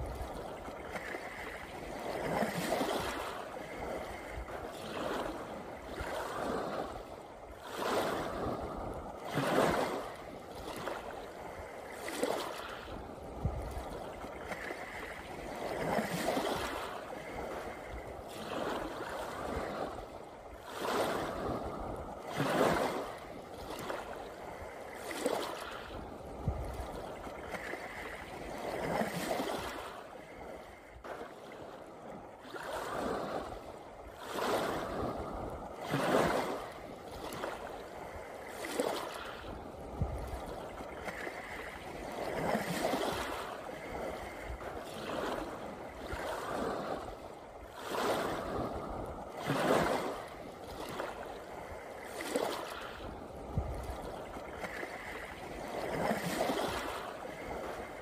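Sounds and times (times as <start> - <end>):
waves lapping on rocky shore: 0.0 - 58.0.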